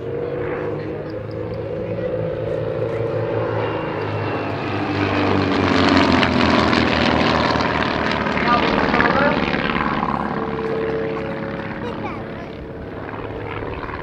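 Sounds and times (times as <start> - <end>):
propeller aircraft flying past: 0.0 - 14.0.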